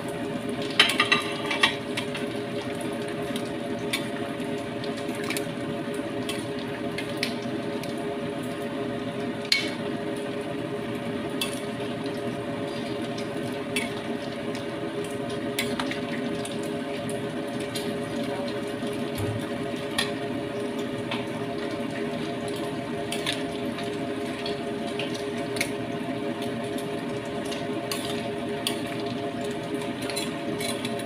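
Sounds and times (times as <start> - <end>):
water boiling and bubbling: 0.0 - 31.0.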